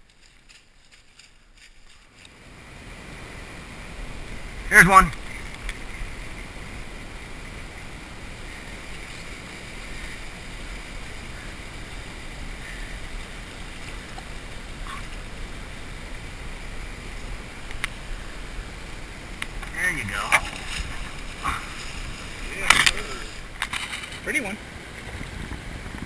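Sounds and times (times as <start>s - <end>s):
river water rushing: 1.5s - 25.9s.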